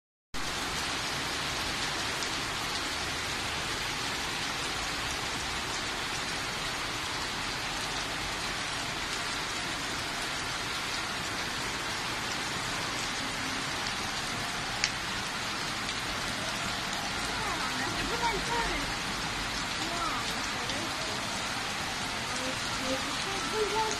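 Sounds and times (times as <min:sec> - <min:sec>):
heavy rain splashing on water and cars: 0:00.4 - 0:23.9.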